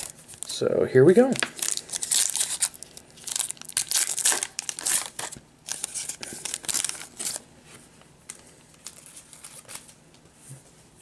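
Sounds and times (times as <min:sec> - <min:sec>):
plastic wrapper crinkling: 0:00.0 - 0:07.4, 0:08.3 - 0:10.0.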